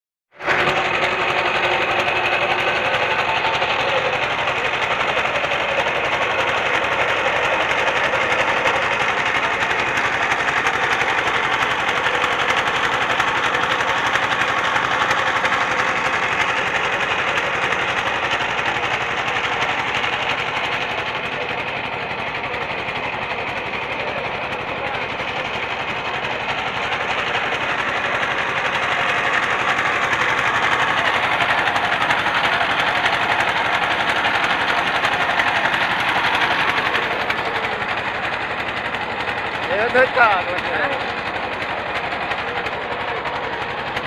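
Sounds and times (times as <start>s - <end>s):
motorboat diesel engine: 0.3s - 44.0s.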